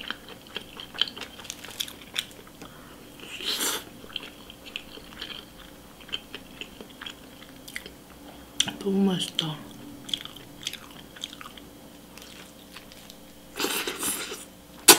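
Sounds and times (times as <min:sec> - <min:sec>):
chewing food with wet smacks: 0:00.0 - 0:09.4, 0:10.0 - 0:14.9.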